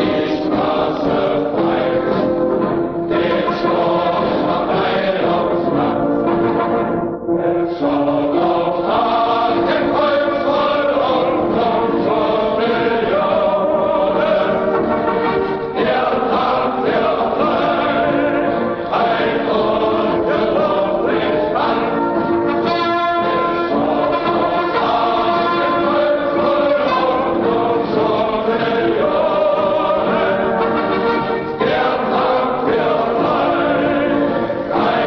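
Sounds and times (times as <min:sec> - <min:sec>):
choir singing an anthem: 0:00.0 - 0:35.0.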